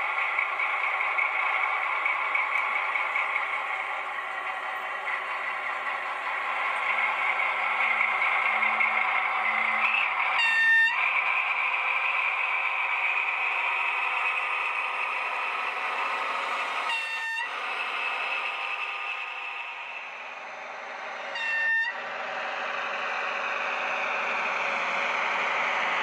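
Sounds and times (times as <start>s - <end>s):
model diesel engine sound: 0.0s - 26.0s
model train running noise: 0.0s - 26.0s.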